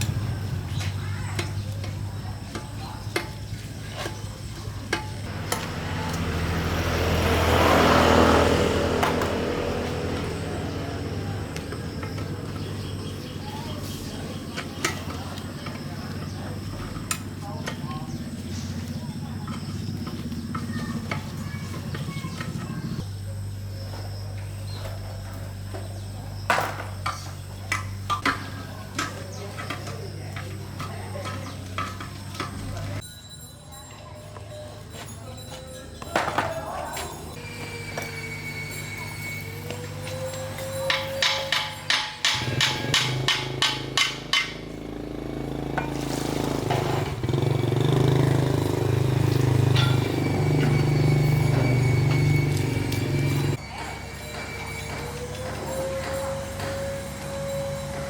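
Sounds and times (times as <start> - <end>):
hand tools clinking on metal: 0.0 - 23.1, 23.9 - 58.0
low engine hum: 0.0 - 33.0, 42.3 - 58.0
motor vehicle passing: 0.0 - 33.0, 36.9 - 58.0.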